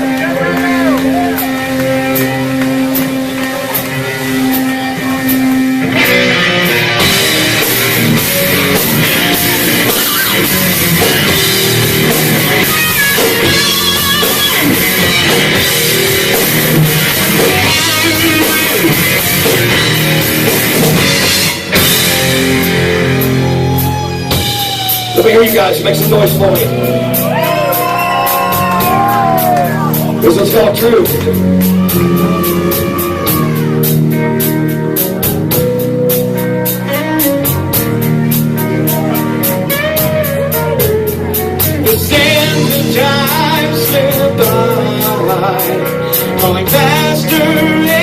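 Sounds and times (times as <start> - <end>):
live heavy metal band: 0.0 - 48.0.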